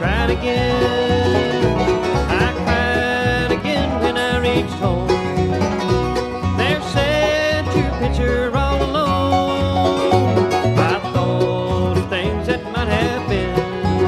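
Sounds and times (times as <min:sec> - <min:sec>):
bluegrass band playing: 0:00.0 - 0:14.0
sliding lead notes: 0:00.0 - 0:14.0.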